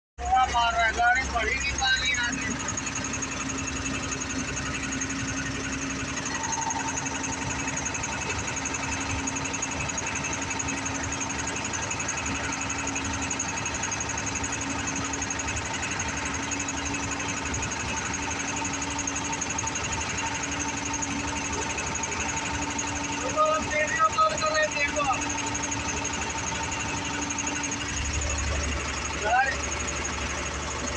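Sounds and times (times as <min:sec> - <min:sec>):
diesel engine knocking rattle: 0:00.2 - 0:30.9
steady whine: 0:00.2 - 0:30.9.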